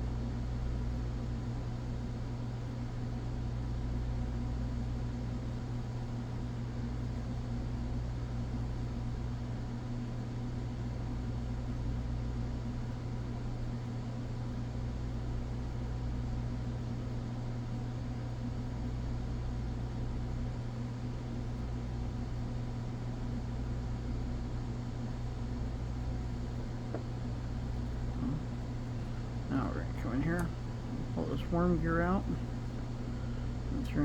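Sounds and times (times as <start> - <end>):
low background hum with hiss: 0.0 - 34.0.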